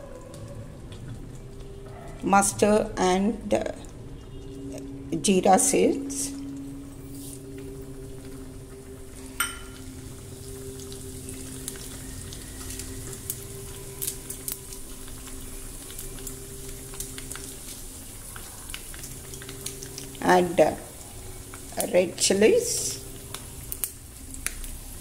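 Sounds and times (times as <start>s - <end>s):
seeds sizzling in hot oil: 1.4s - 25.0s.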